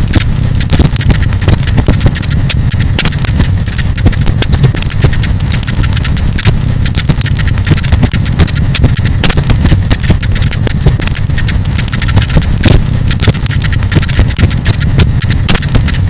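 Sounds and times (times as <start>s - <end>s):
low fire rumble: 0.0s - 16.0s.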